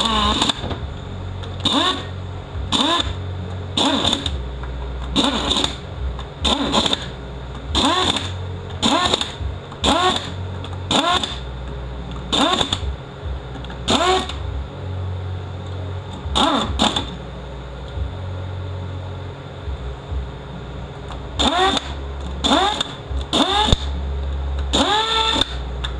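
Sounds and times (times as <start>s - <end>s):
power driver whining: 0.0s - 18.2s, 19.5s - 25.9s.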